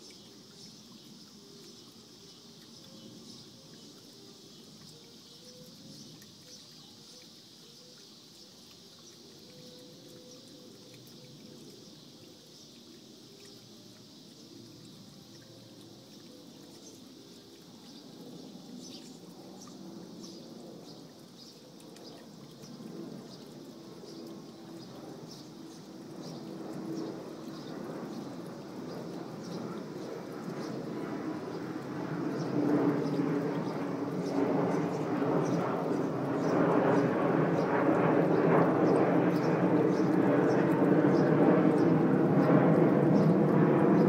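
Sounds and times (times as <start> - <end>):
fountain trickling and splashing: 0.0 - 44.0.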